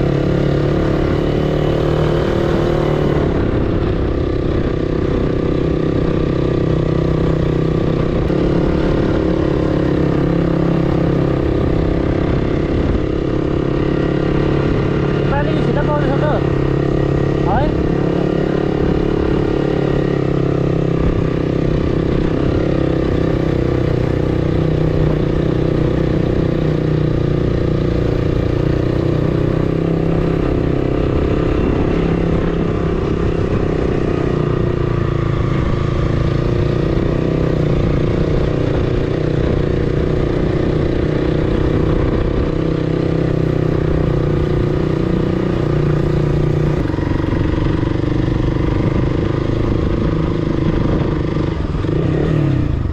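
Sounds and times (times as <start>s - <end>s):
motorcycle engine running: 0.0s - 52.9s
road and wind noise: 0.0s - 52.9s.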